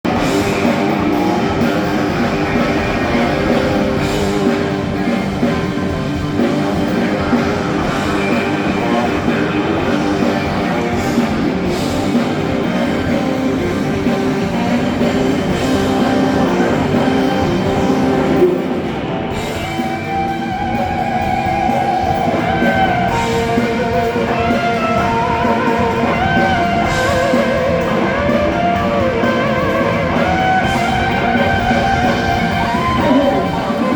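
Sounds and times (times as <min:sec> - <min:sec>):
electric guitar lead lines: 0:00.0 - 0:33.9
rock band playing live: 0:00.0 - 0:33.9.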